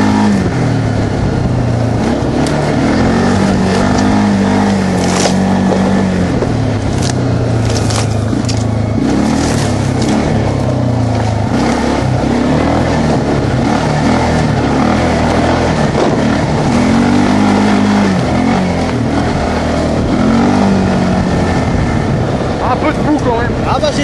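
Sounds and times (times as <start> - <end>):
quad engine revving: 0.0 - 24.0.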